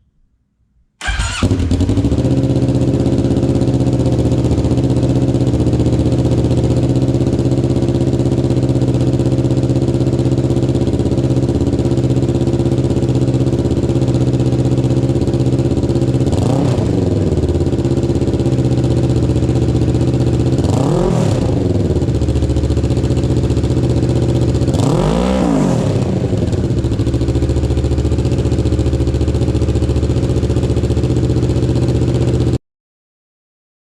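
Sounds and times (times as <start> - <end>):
motorcycle engine idling: 1.0 - 32.6.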